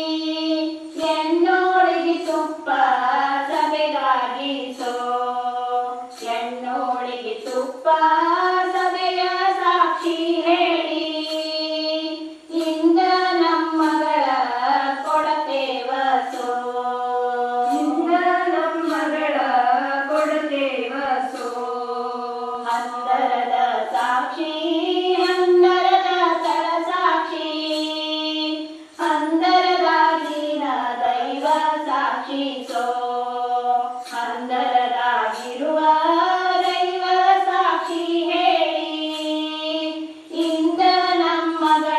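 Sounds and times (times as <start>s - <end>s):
women singing in unison: 0.0s - 41.9s.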